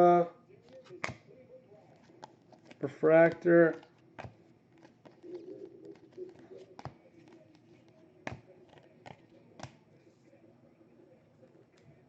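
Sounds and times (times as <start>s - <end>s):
handling of trading cards: 0.5s - 10.4s.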